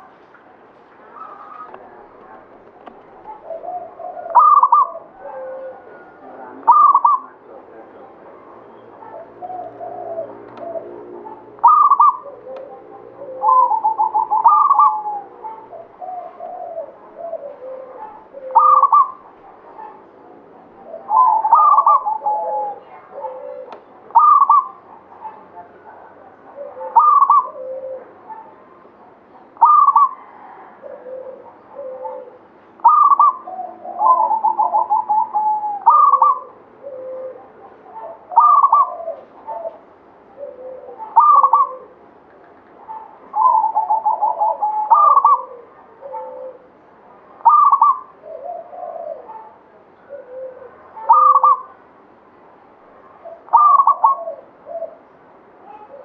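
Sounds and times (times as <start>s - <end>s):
dove cooing: 1.0s - 51.9s, 53.0s - 56.0s.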